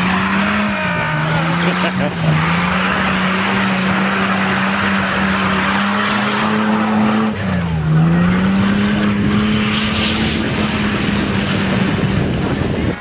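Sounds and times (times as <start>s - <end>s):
vehicle engine running hard: 0.0s - 13.0s.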